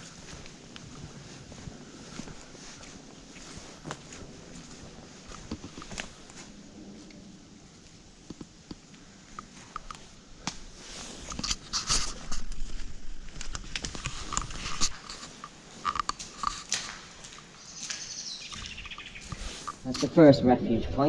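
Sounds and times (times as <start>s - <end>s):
footsteps on muddy stony track: 0.0s - 6.6s, 9.4s - 20.2s.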